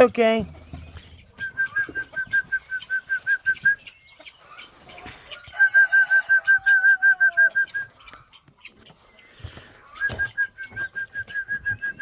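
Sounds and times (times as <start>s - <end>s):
guinea fowl calling: 0.9s - 10.9s.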